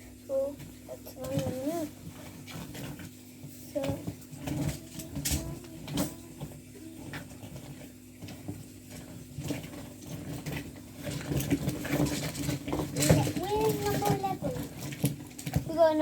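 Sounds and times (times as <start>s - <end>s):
steady low hum: 0.0s - 16.0s
fidget toys clicking and rattling: 1.1s - 2.9s, 3.8s - 16.0s.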